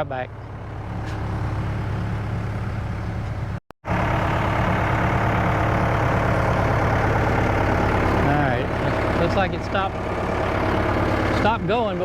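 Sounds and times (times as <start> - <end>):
pump engine idling: 0.1 - 12.0.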